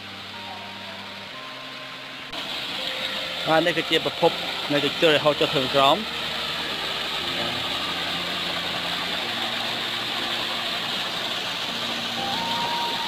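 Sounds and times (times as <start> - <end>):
waterfall splashing over rocks: 0.0 - 13.0.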